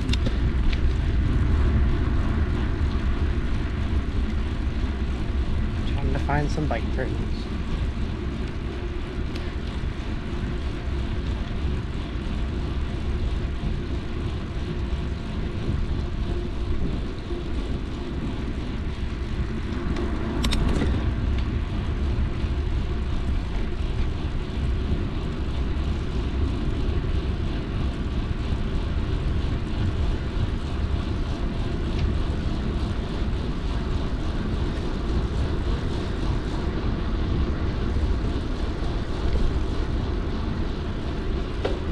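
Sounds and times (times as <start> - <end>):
wind rush: 0.0 - 41.9.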